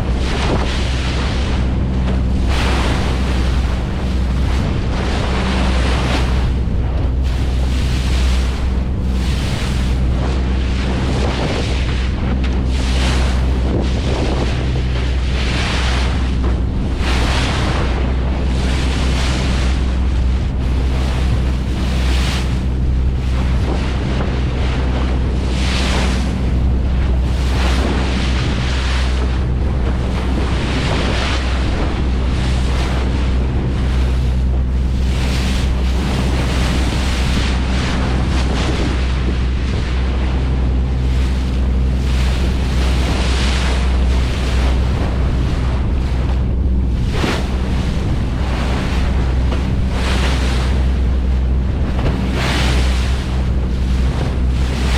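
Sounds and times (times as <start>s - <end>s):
boat engine humming: 0.0s - 54.9s
waves washing: 0.0s - 54.9s
wind noise: 0.0s - 54.9s.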